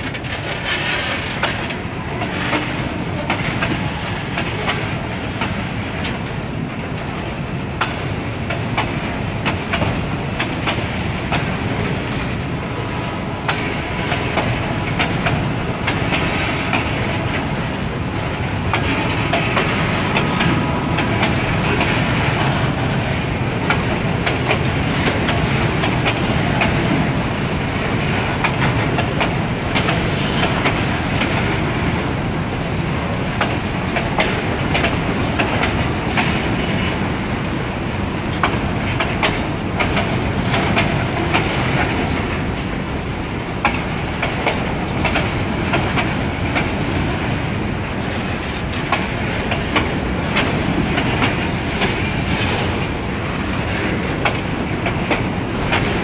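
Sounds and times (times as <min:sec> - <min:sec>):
freight train wheels clicking: 0:00.0 - 0:56.0.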